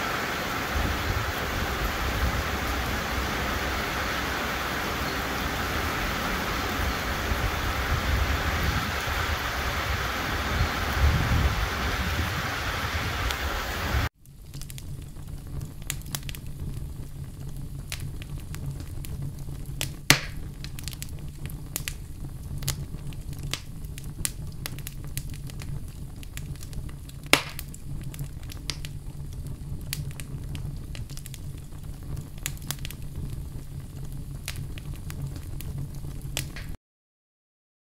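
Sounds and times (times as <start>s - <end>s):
fire pops: 0.0s - 36.8s
wood fire crackling: 0.0s - 36.8s.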